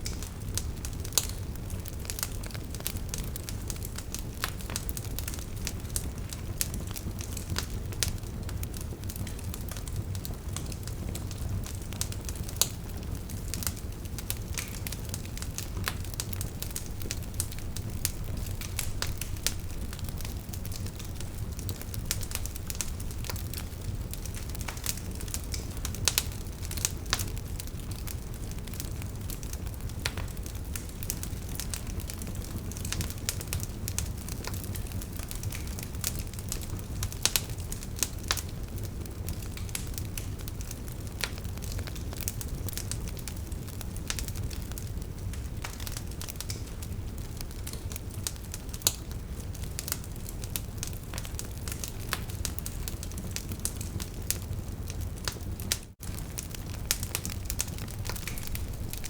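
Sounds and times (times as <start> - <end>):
burning logs crackling and popping: 0.0 - 59.0
wood fire flames rumbling: 0.0 - 59.0.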